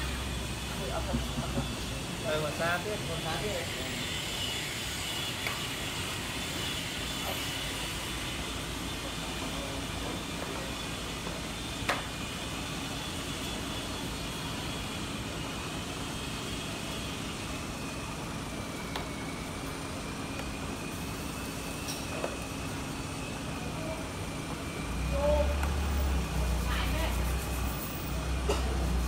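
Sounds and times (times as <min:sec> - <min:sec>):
street traffic noise: 0:00.0 - 0:29.0.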